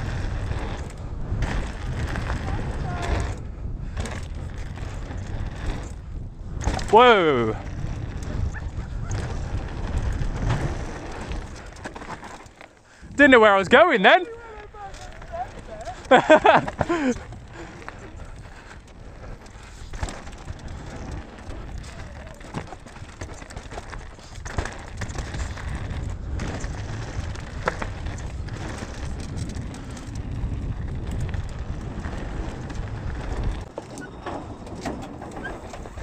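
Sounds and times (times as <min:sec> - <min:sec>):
bike clicks and knocks: 0:00.0 - 0:07.0, 0:07.6 - 0:12.9, 0:14.2 - 0:36.0
bike rumbling on dirt trail: 0:00.0 - 0:36.0.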